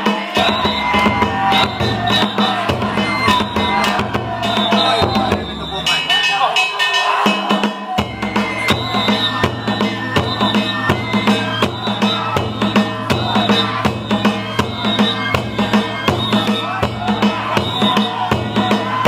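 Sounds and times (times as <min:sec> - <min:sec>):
bamboo flute melody: 0:00.0 - 0:19.0
taiko drum beating: 0:00.0 - 0:19.0.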